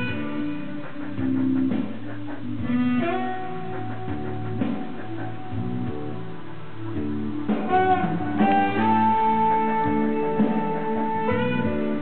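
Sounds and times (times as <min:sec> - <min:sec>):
string instrument music: 0:00.0 - 0:12.0.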